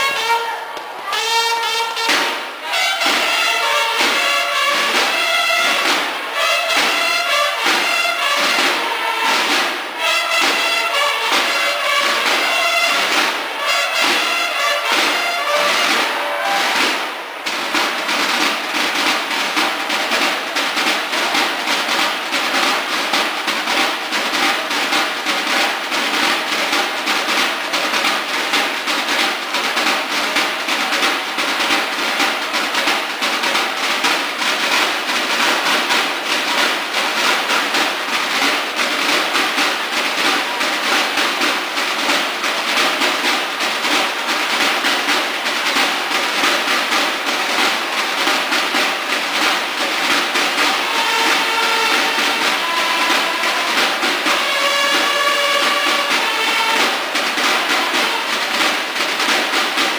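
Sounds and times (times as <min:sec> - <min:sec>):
snare drums playing rolls: 0:00.0 - 0:59.9.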